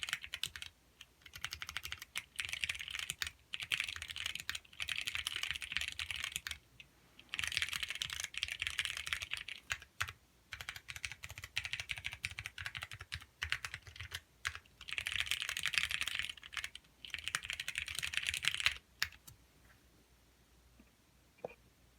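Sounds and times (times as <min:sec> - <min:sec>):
rapid keyboard typing: 0:00.0 - 0:06.6, 0:07.2 - 0:19.3.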